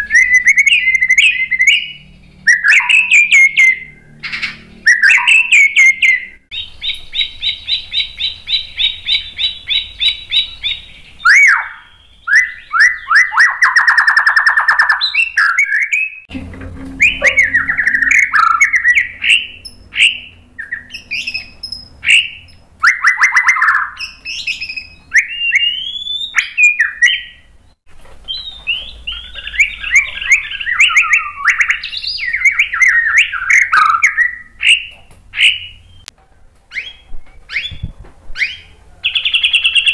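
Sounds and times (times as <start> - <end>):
songbird singing trills: 0.0 - 36.1.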